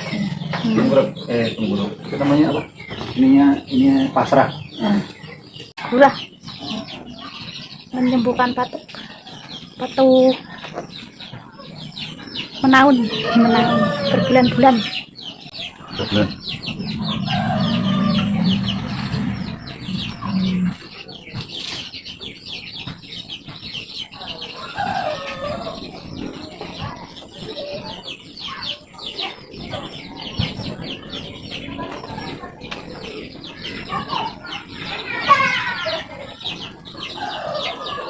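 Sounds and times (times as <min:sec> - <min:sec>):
chickens clucking and calling: 0:00.0 - 0:38.0.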